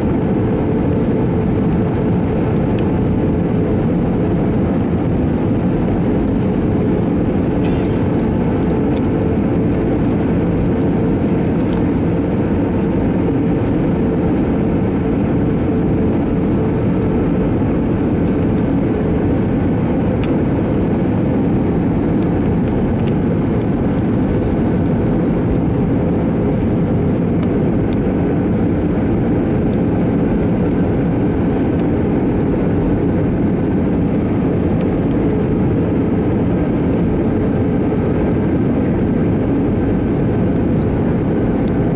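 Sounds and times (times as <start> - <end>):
constant hum: 0.0 - 41.9
jet engines and airflow: 0.0 - 41.9.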